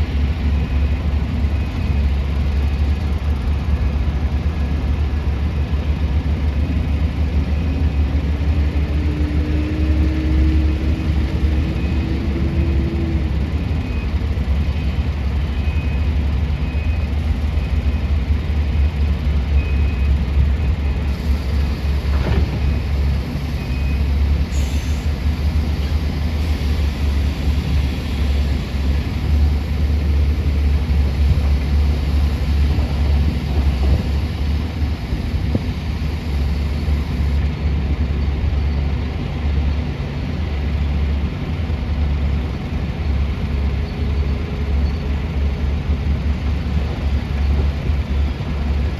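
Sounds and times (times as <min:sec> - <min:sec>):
heavy diesel machinery rumbling: 0:00.0 - 0:48.9.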